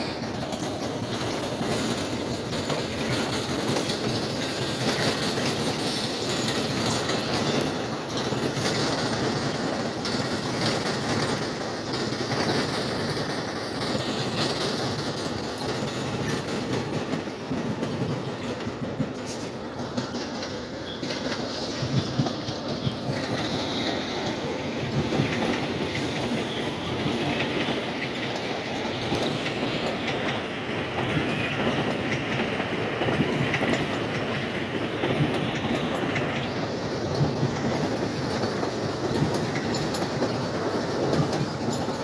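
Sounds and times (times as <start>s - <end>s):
train rumbling past: 0.0s - 42.0s
wheels clacking over rail joints: 0.0s - 42.0s.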